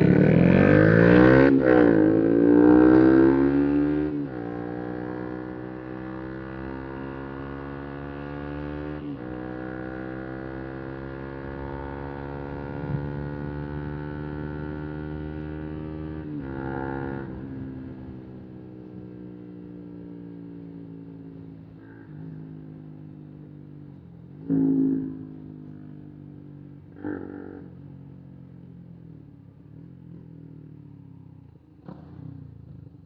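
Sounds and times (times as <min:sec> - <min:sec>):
motorcycle engine: 0:00.0 - 0:33.0.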